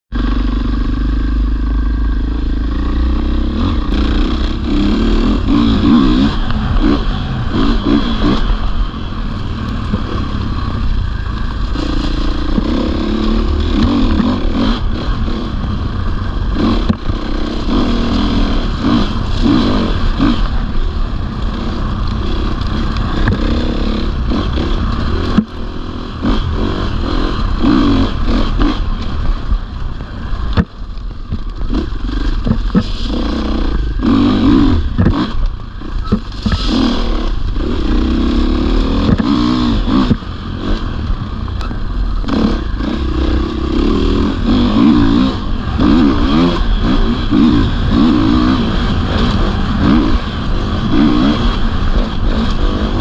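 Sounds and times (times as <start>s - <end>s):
motorcycle engine revving: 0.1s - 53.0s.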